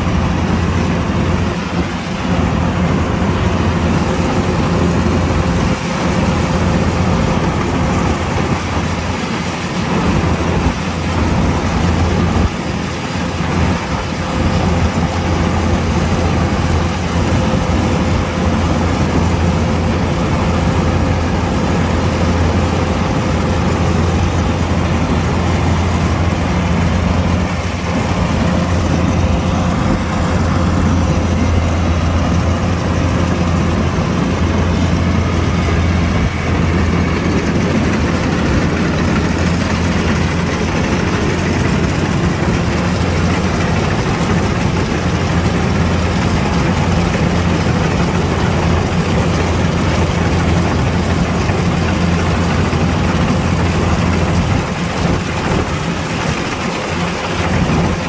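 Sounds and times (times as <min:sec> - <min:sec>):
combine harvester engine hum: 0:00.0 - 0:58.0.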